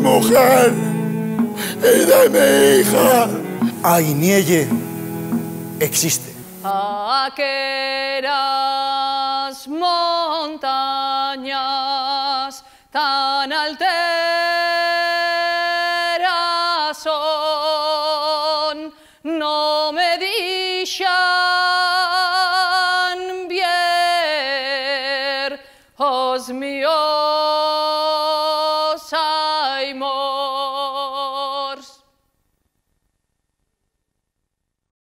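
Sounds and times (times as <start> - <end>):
woman singing unaccompanied: 0.0 - 4.8, 6.6 - 32.1.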